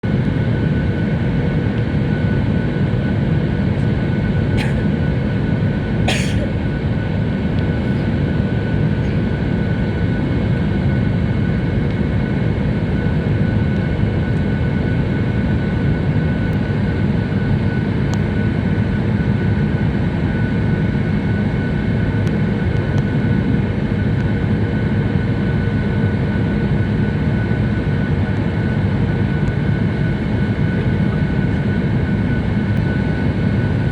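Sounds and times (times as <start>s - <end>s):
jet cabin engine and air rush: 0.0s - 33.9s.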